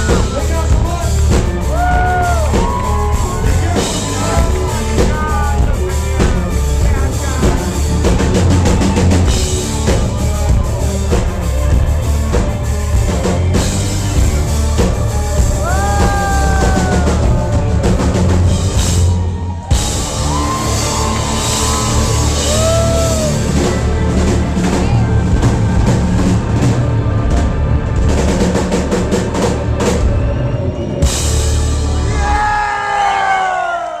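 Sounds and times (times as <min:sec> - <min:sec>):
country rock band playing: 0:00.0 - 0:33.3
driving drum kit: 0:00.0 - 0:33.6.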